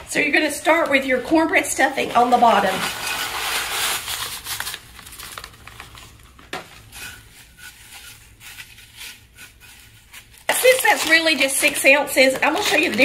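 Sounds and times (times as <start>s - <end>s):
plastic liner rustling: 0.7s - 13.0s.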